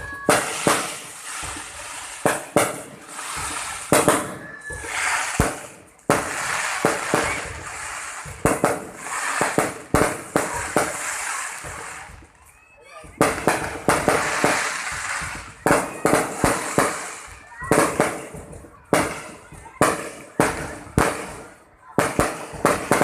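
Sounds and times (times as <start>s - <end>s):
fireworks shells bursting: 0.0s - 12.3s, 13.2s - 23.0s.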